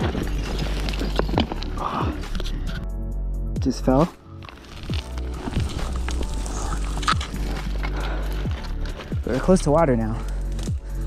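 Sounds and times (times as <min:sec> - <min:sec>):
footsteps crunching on loose rock: 0:00.0 - 0:02.5, 0:04.4 - 0:11.0
background music: 0:00.0 - 0:11.0.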